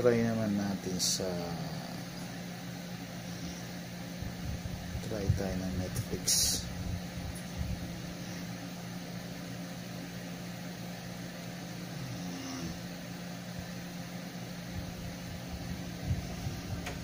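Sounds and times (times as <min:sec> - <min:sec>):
cooling fan whirring: 0:00.0 - 0:17.0.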